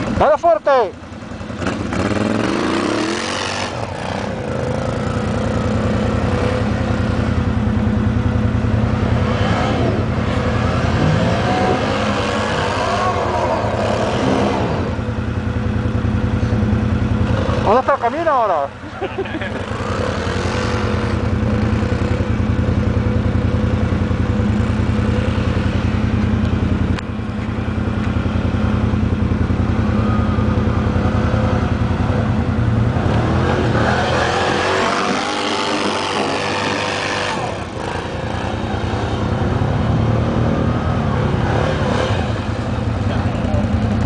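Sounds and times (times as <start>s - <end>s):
quad bike engine revving: 0.0s - 44.0s.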